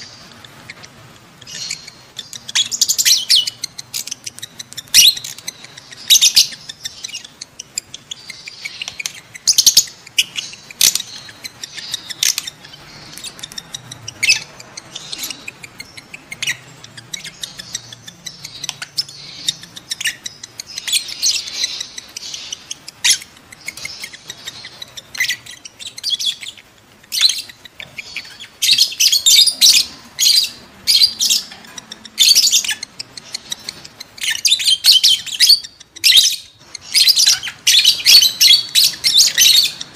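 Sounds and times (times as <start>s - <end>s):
lovebirds chirping shrilly: 0.0s - 39.9s.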